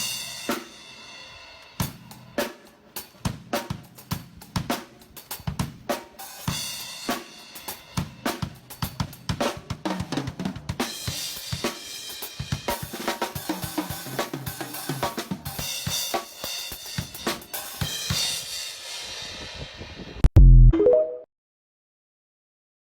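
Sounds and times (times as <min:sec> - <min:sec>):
drum kit playing: 0:00.0 - 0:19.6.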